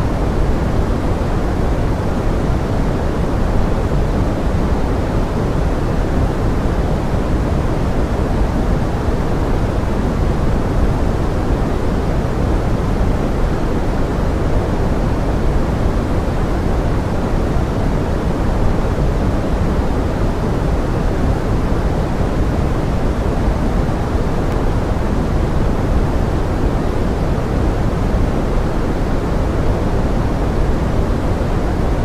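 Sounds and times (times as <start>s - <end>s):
steady pink noise hiss: 0.0s - 32.0s.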